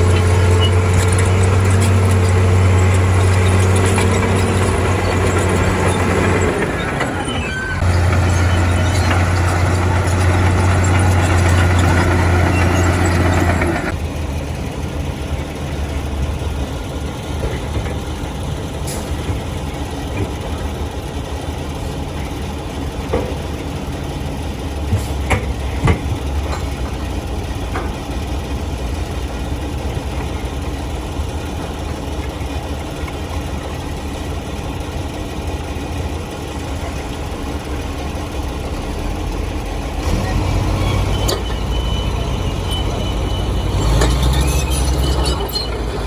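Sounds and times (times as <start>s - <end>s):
diesel machinery engine droning: 0.0s - 46.0s.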